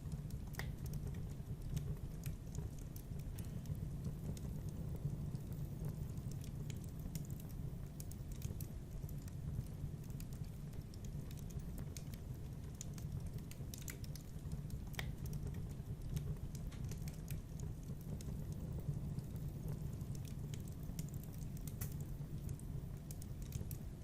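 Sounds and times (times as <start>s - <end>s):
low fire rumble: 0.0s - 24.0s
wood fire crackling: 0.0s - 24.0s.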